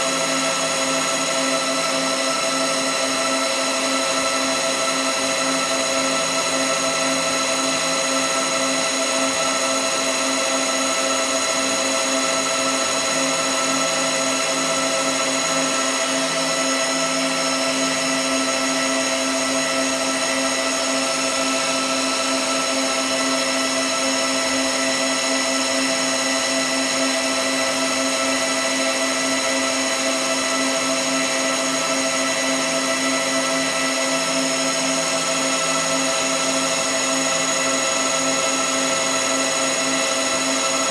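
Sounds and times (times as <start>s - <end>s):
machine humming and whining: 0.0s - 40.9s.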